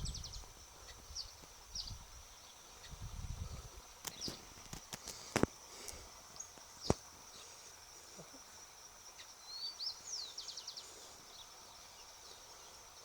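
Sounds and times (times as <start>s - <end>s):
high-pitched insect hum: 0.0s - 13.0s.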